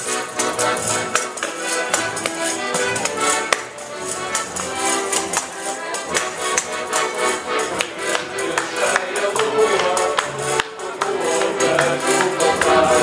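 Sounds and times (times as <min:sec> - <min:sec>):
accordion: 0:00.0 - 0:13.0.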